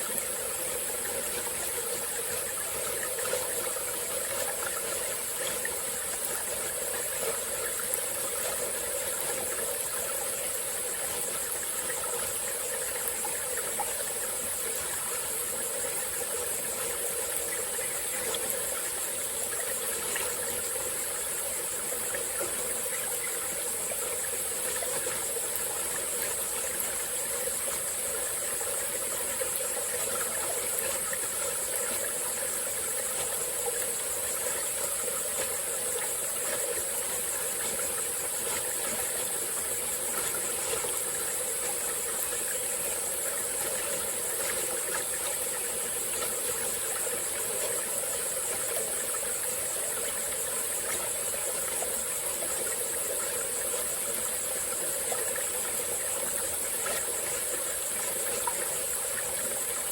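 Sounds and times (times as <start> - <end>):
forest stream flowing: 0.0 - 59.9
insects chirping chorus: 0.0 - 59.9.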